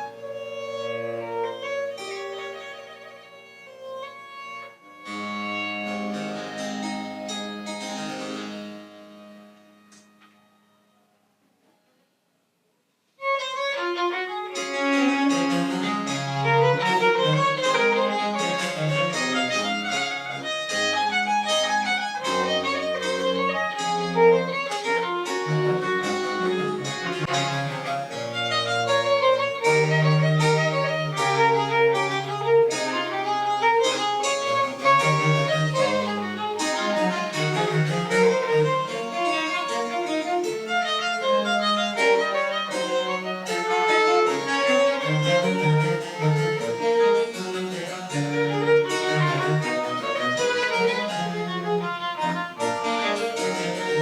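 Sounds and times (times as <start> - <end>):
baroque chamber ensemble: 0.0 - 10.0, 13.2 - 54.0.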